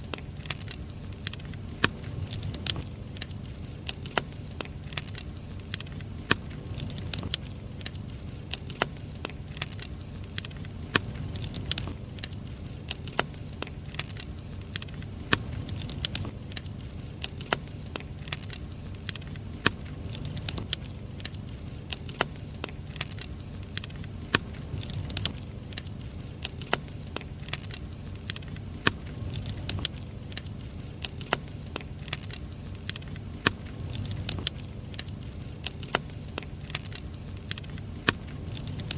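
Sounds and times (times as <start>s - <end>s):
firewood crackling and popping: 0.0s - 38.9s
low steady rumble: 0.0s - 38.9s.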